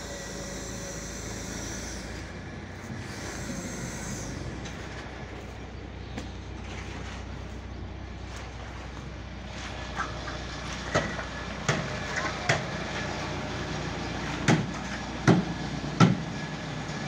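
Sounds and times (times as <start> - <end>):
low machine drone: 0.0 - 17.0
outdoor noise: 0.0 - 17.0.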